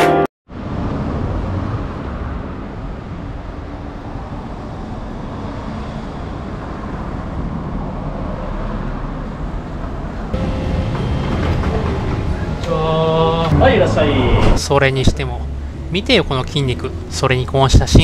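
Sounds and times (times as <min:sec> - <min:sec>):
low rumble of street noise: 0:00.5 - 0:18.0.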